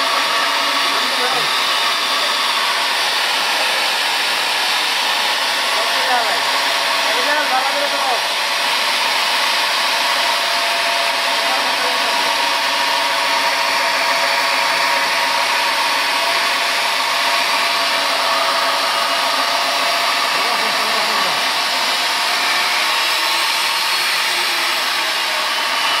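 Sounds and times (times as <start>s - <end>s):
core drill motor whining: 0.0s - 26.0s.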